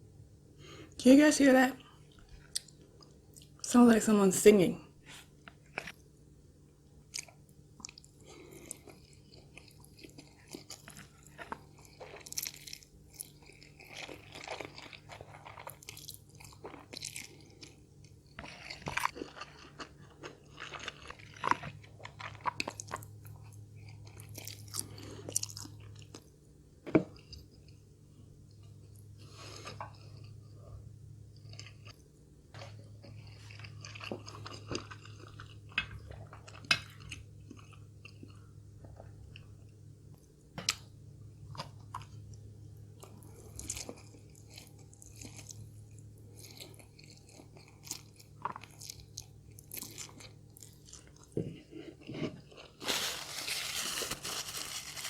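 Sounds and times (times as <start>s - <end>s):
person chewing crunchy food: 5.5s - 6.2s, 7.0s - 26.5s, 28.5s - 55.0s.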